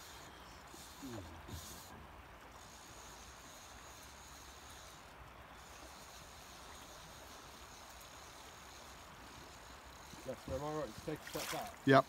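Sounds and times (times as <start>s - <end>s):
river water flowing: 0.6s - 12.0s.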